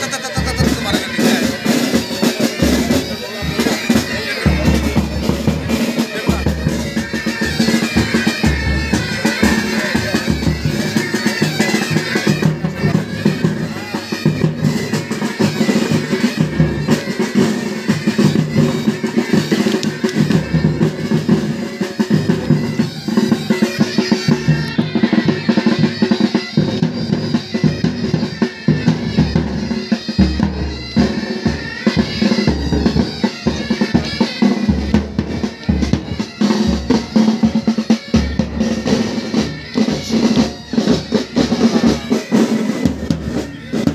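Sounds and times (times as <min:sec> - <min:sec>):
bagpipes playing melody over drones: 0:00.0 - 0:43.9
side drums and bass drum beating: 0:00.0 - 0:43.9.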